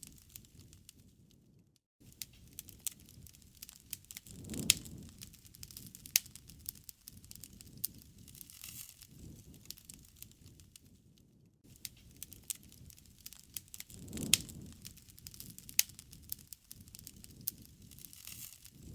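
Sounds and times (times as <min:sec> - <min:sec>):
bonfire crackling and popping: 0:00.0 - 0:18.9.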